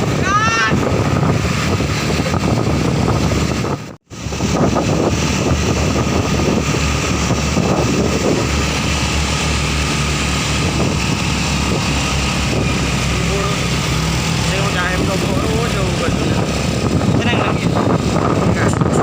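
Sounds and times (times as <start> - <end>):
truck engine running: 0.8 - 19.0.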